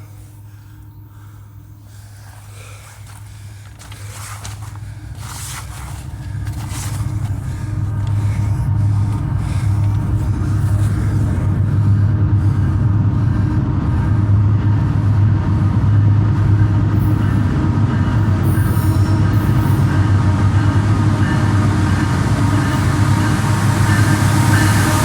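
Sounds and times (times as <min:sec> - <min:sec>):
train rumbling past: 0:01.0 - 0:25.0.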